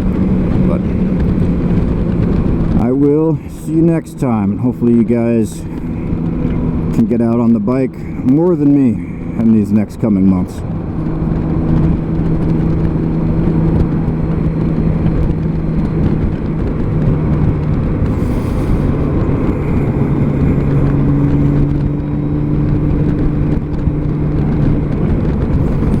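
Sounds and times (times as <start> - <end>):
motorcycle engine running: 0.0 - 26.0
road noise: 0.0 - 26.0
wind noise: 0.0 - 26.0.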